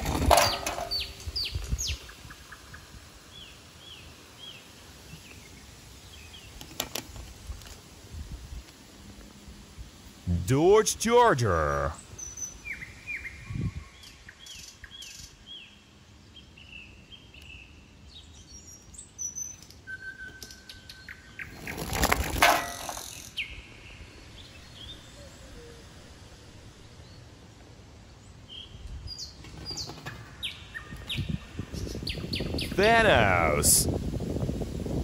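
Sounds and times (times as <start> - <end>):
garden birds chirping: 0.4 - 7.4, 10.2 - 21.9, 23.0 - 33.8.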